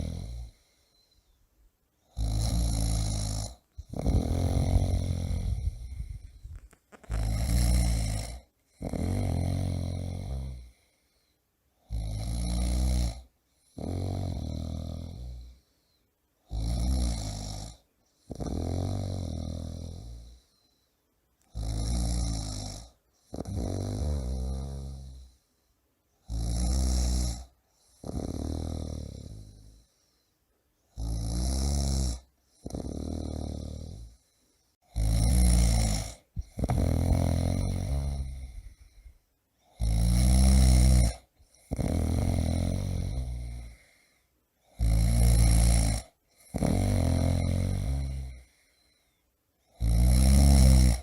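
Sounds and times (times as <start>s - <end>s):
man snoring loudly: 0.0s - 0.6s, 2.0s - 6.4s, 7.0s - 10.8s, 11.8s - 15.6s, 16.5s - 20.4s, 21.5s - 25.4s, 26.2s - 29.8s, 31.0s - 34.2s, 34.9s - 48.6s, 49.7s - 51.0s.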